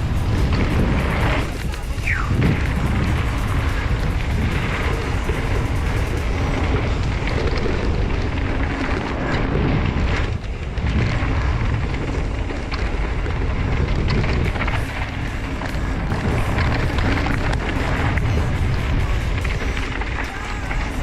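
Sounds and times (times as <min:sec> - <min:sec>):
bike clicks and rattles: 0:00.0 - 0:21.0
tyres rumbling on dirt: 0:00.0 - 0:21.0
wind buffeting microphone: 0:00.0 - 0:21.0.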